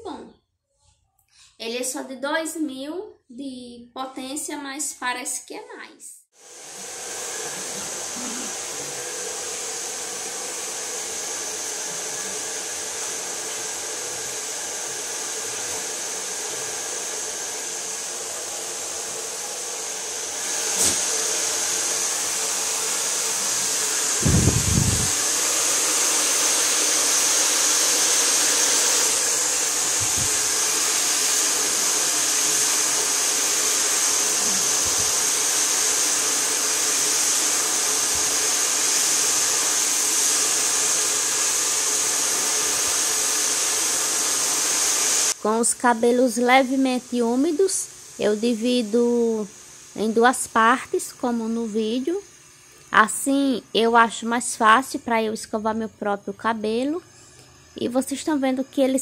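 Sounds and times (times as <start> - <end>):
hair dryer blowing: 6.4 - 55.8.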